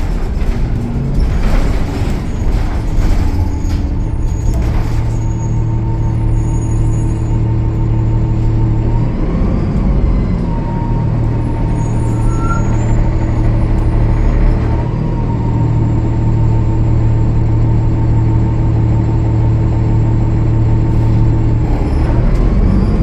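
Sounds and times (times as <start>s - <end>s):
diesel bus engine droning: 0.0s - 23.0s.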